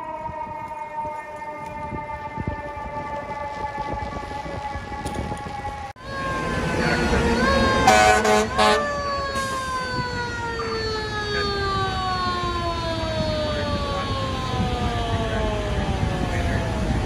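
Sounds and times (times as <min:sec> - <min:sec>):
fire engine siren winding down: 0:00.0 - 0:17.0.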